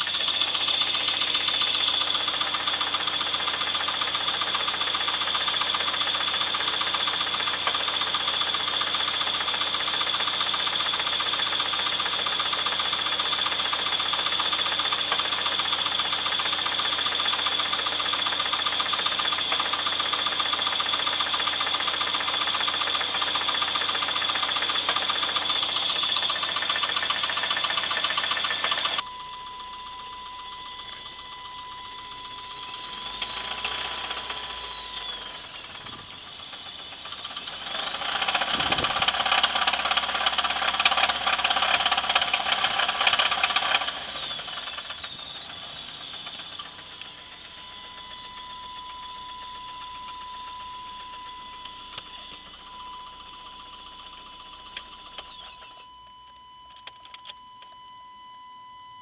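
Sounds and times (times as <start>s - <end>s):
car engine running with knock: 0.0s - 29.0s, 30.3s - 55.8s.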